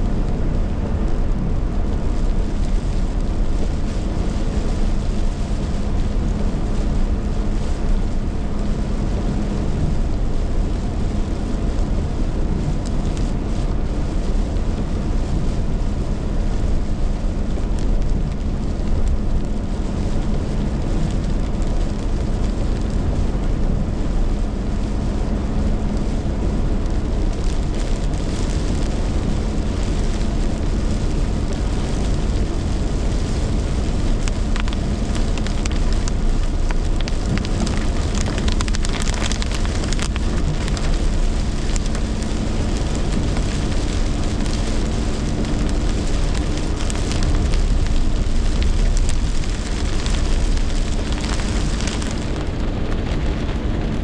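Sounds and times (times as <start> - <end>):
pouring rain: 0.0 - 54.0
wind: 0.0 - 54.0.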